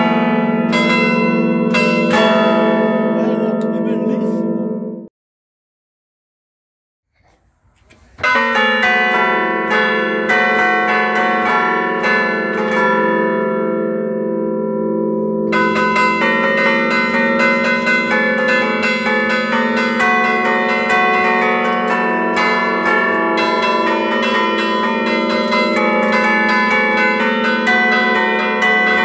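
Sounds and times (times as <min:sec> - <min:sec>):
church bells ringing melodic pattern: 0:00.0 - 0:05.1, 0:08.2 - 0:29.0.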